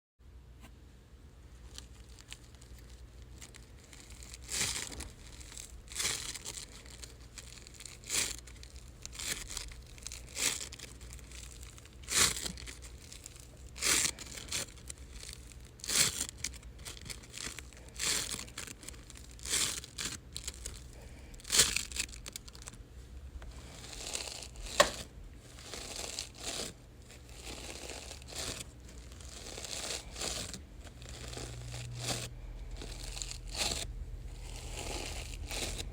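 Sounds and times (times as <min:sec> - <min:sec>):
sticky slime crackly tearing: 0:01.7 - 0:22.8, 0:23.6 - 0:35.9.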